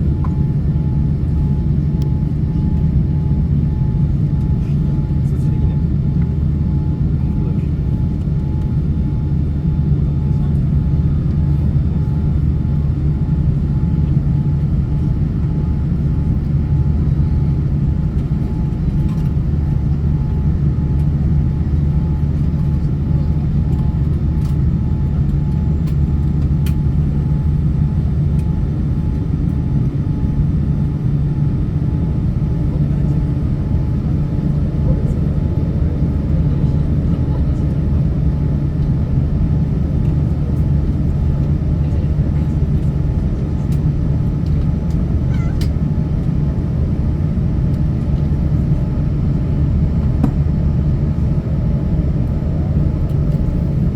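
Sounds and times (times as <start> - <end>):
airliner cabin drone: 0.0 - 53.9.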